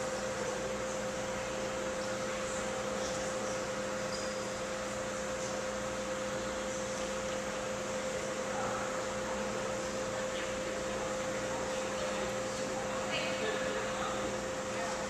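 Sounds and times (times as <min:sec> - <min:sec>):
constant mid-pitched tone: 0:00.0 - 0:15.0
ventilation machinery hum and hiss: 0:00.0 - 0:15.0.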